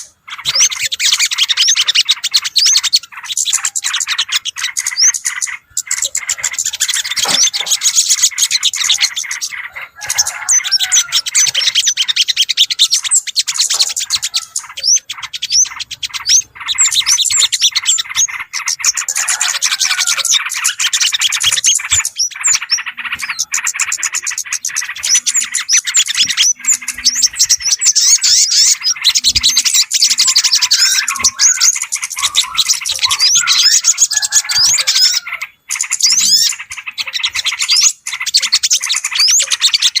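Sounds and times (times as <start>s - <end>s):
small birds chirping and twittering: 0.0s - 40.0s.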